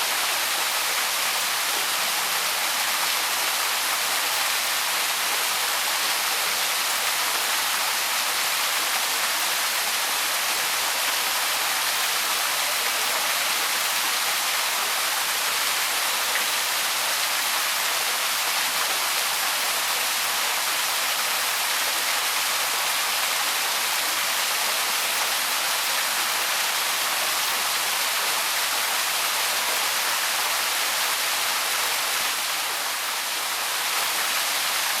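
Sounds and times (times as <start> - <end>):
small waterfall splashing: 0.0 - 35.0.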